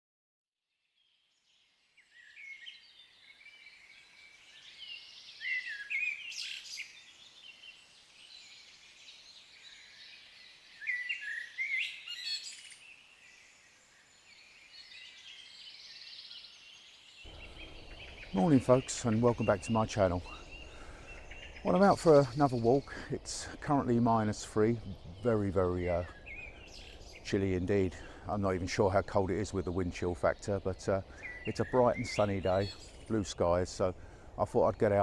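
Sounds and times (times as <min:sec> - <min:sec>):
small birds singing and chirping: 0:01.0 - 0:35.0.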